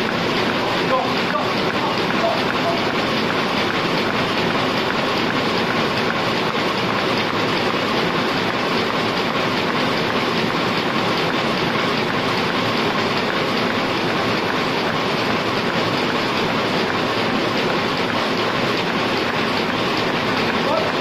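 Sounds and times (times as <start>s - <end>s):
printing press clattering: 0.0s - 21.0s.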